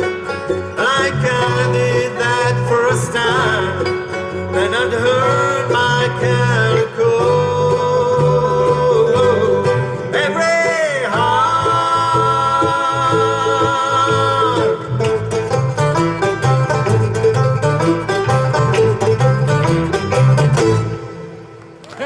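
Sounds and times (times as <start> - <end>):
banjo: 0.0 - 21.5
guitar: 0.0 - 22.0.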